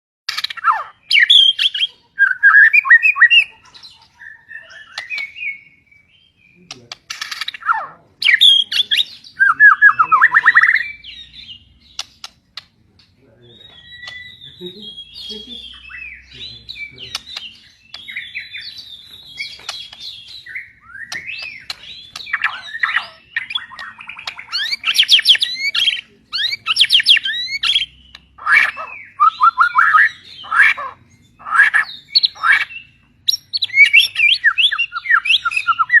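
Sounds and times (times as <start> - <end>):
songbird singing whistled phrases: 0.3 - 3.6, 4.2 - 12.0, 13.5 - 36.0.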